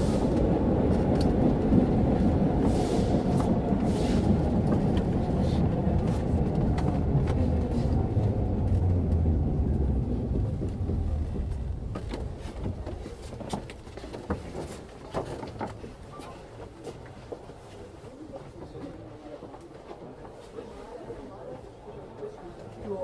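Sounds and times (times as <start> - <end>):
train running gear rumble: 0.0 - 20.6.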